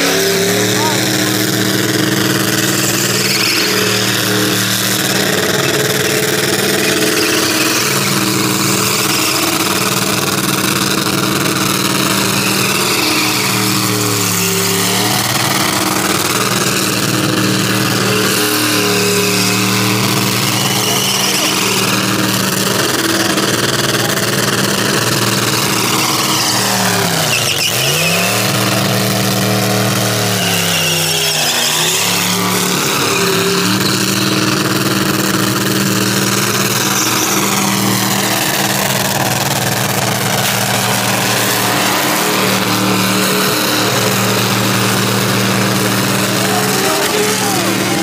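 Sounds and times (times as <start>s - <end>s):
car engine revving: 0.0s - 48.0s
tyres spinning on pavement: 0.0s - 48.0s.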